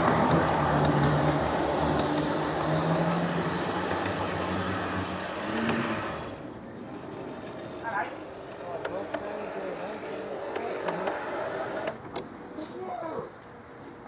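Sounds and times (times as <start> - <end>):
electric motor hum: 0.0 - 12.0
wheels rumbling on rail: 0.0 - 12.1.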